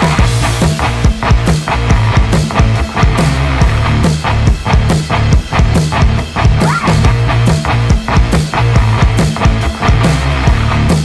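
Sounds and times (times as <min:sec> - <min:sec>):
music with heavy drum beat: 0:00.0 - 0:11.0
sustained bass line: 0:00.0 - 0:11.0.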